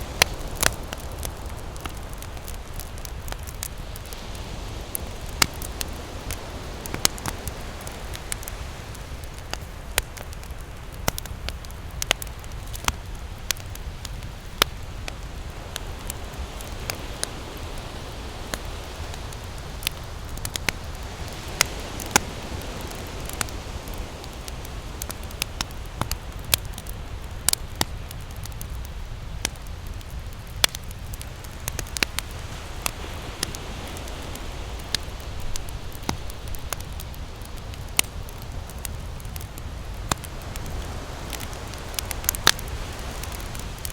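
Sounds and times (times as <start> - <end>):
campfire crackling and popping: 0.0 - 43.9
ocean surf: 0.0 - 43.9.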